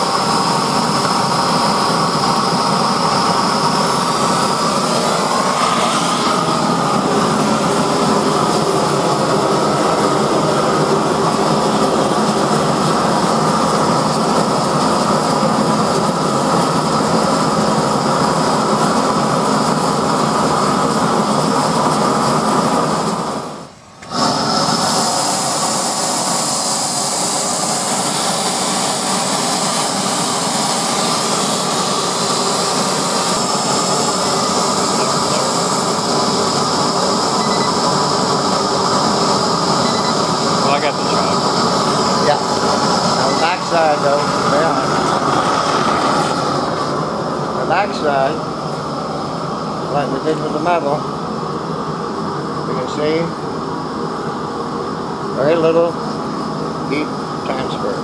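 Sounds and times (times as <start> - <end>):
propane torch burning: 0.0 - 58.0.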